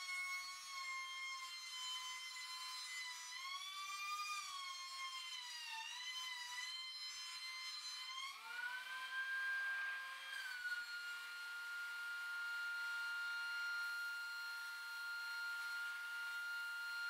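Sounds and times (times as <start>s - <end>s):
thickness planer motor whine: 0.0s - 17.0s.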